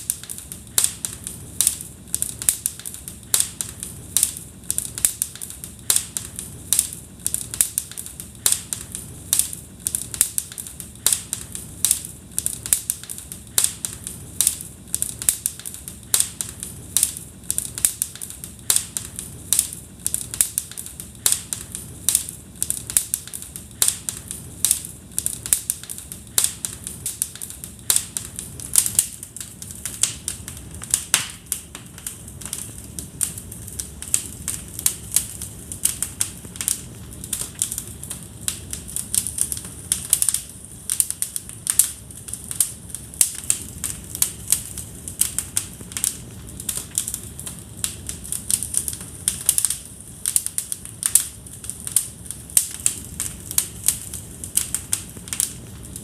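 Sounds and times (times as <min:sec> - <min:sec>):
low rush of flames: 0:00.0 - 0:56.0
wood fire crackling: 0:00.0 - 0:56.0.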